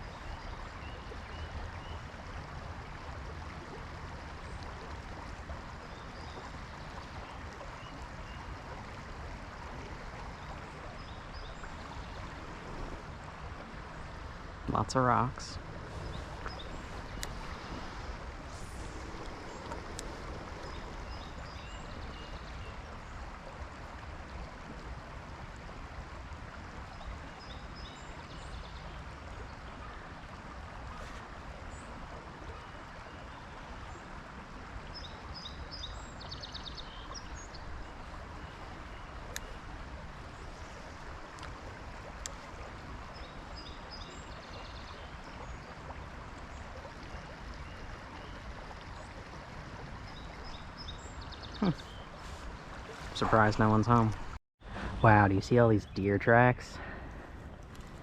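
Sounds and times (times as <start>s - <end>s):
creek water running over rocks: 0.0s - 58.0s.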